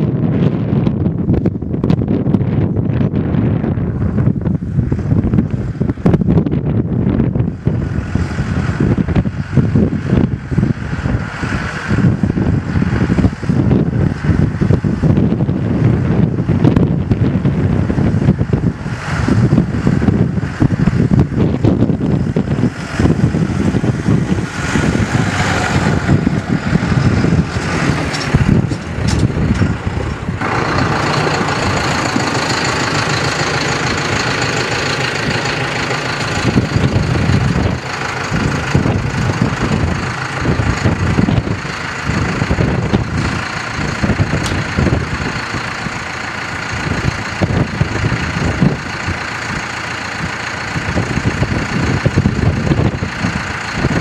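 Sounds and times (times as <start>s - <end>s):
tractor engine running: 0.0s - 54.0s
wind on microphone: 0.0s - 54.0s.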